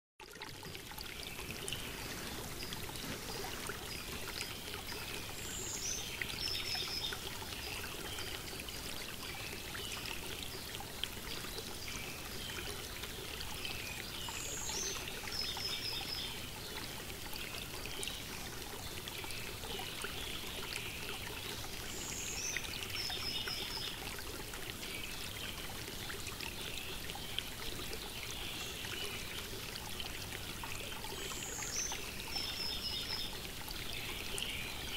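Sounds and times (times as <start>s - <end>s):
running stream water: 0.2s - 34.9s.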